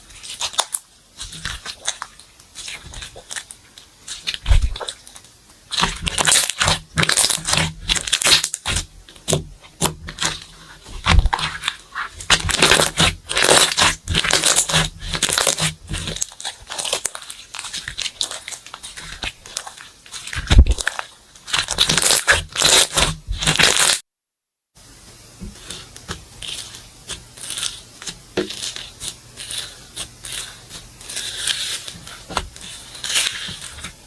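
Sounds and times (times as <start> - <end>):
slime crackling and popping: 0.0 - 24.0, 25.5 - 34.0.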